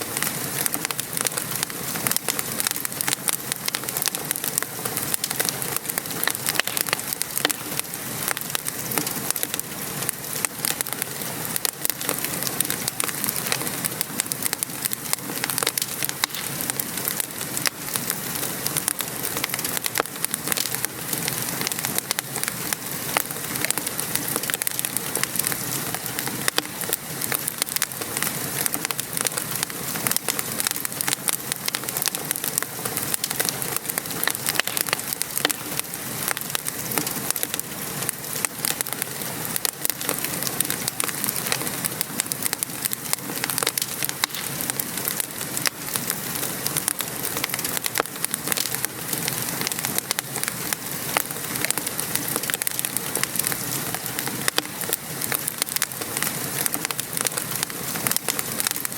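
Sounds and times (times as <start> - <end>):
rain pattering: 0.0 - 58.9
wood fire crackling: 0.0 - 58.9.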